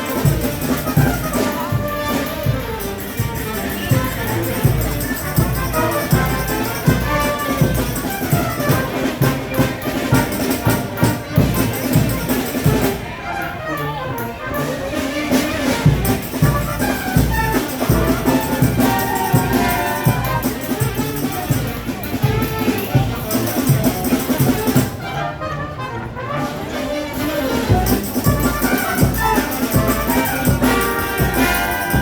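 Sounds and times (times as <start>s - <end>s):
brass band with driving drums: 0.0s - 32.0s.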